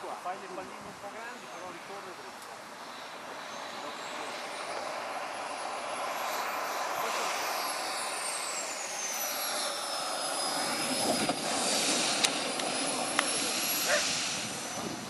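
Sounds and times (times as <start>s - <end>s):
high turbine whine: 0.0s - 15.0s
model jet engine rushing: 0.0s - 15.0s.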